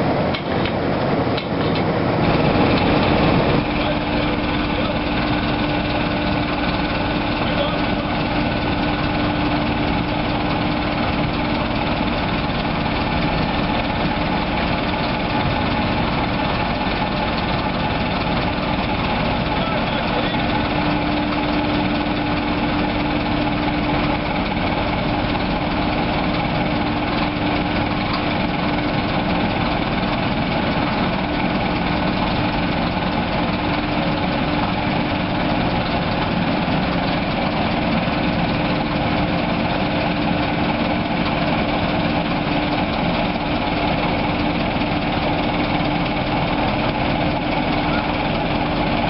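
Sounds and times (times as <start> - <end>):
locomotive engine humming: 0.0 - 49.0.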